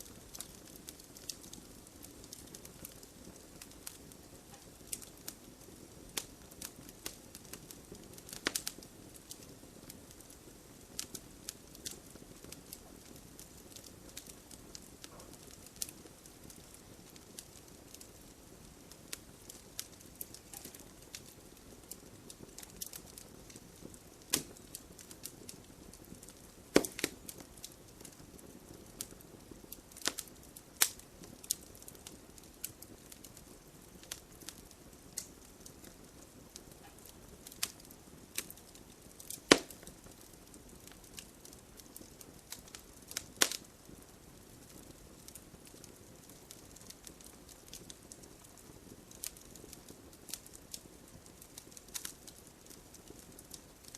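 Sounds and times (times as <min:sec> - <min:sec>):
fire crackles and pops: 0:00.0 - 0:53.9
fireplace flames rustling: 0:00.0 - 0:53.9.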